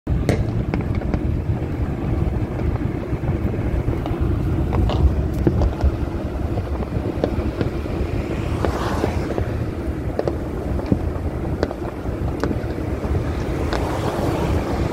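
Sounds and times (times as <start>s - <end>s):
car road and wind rumble: 0.1s - 14.9s
distant firecrackers popping: 0.1s - 14.9s.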